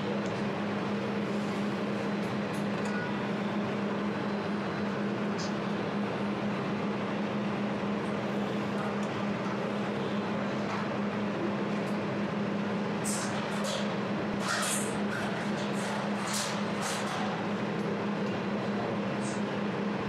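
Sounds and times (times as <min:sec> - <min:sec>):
laser welder humming and hissing: 0:00.0 - 0:20.0.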